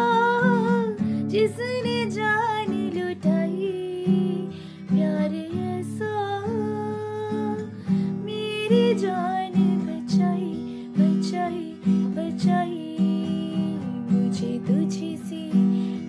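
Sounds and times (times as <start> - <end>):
woman singing a worship song: 0.0 - 16.0.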